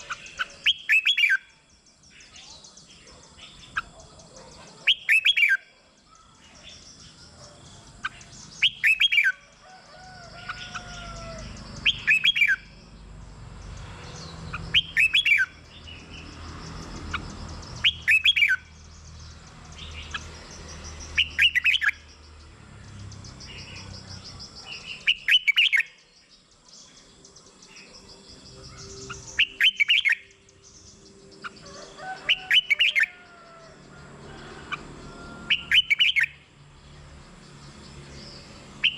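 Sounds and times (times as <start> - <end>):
bird singing warbled phrases: 0.0 - 38.9.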